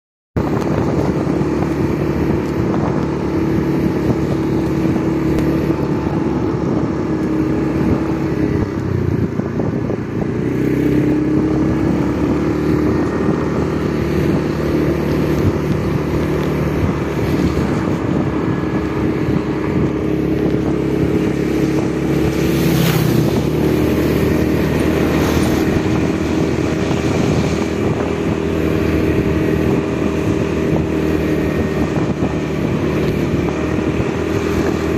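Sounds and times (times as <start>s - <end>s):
motorcycle engine cruising: 0.4s - 34.9s
wind and road noise: 0.4s - 34.9s.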